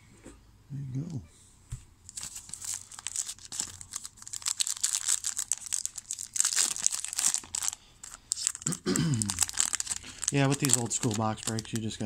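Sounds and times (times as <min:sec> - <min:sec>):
wrapper crinkling and tearing: 0:02.1 - 0:12.0.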